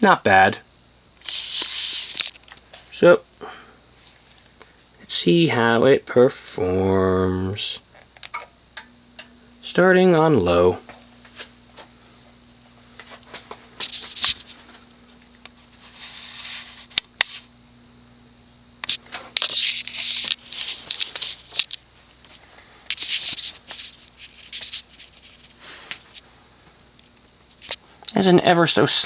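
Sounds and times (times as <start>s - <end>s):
ceiling fan motor humming: 0.0s - 29.0s.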